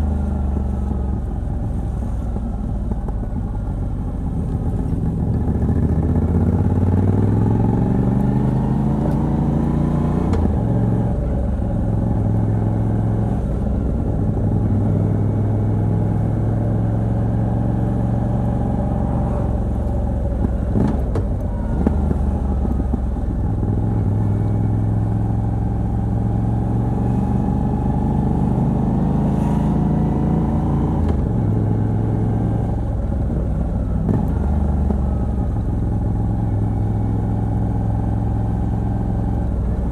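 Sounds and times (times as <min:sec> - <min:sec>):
motorcycle engine revving: 0:03.3 - 0:39.9.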